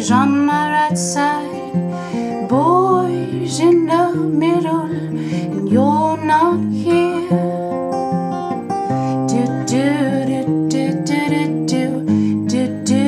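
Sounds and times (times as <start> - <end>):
woman singing: 0.0 - 8.0, 9.2 - 13.0
acoustic guitar: 0.0 - 13.0.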